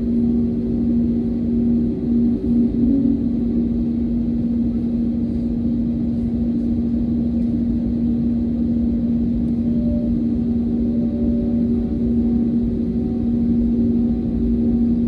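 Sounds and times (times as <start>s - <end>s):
jet engines idling in cabin: 0.0s - 15.0s.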